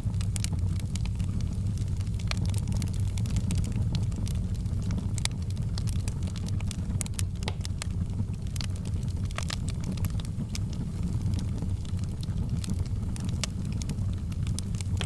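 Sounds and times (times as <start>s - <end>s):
fire crackling and popping: 0.0s - 15.0s
wood fire rumbling: 0.0s - 15.0s.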